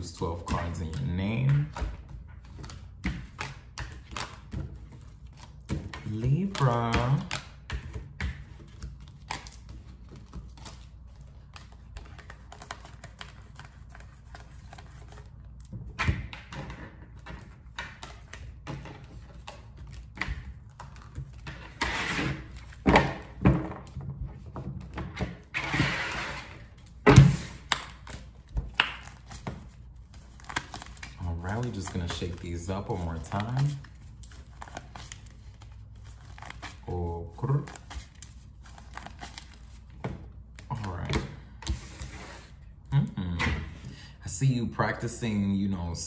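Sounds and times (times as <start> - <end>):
cards being shuffled: 0.0 - 15.8, 16.5 - 24.0, 26.4 - 42.6.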